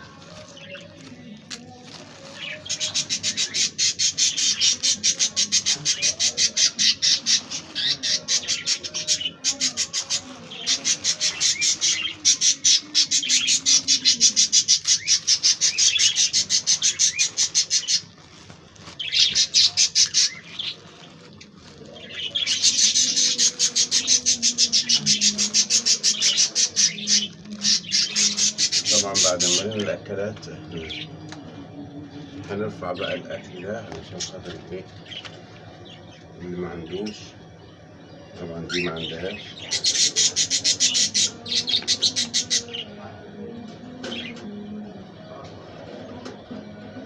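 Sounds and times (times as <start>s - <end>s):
budgerigars chattering and squawking: 2.4s - 18.2s, 18.9s - 21.1s, 22.0s - 31.1s, 32.5s - 42.9s, 44.0s - 44.4s.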